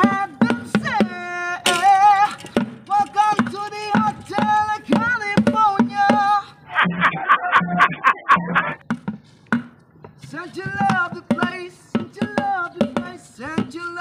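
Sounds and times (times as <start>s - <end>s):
sticks beating plastic buckets: 0.0s - 6.4s, 8.8s - 14.0s.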